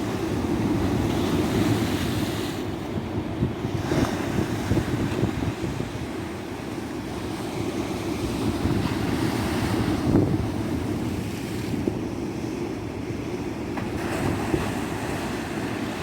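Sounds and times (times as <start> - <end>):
sea surf washing onto beach: 0.0 - 16.0
wind buffeting microphone: 0.0 - 16.0.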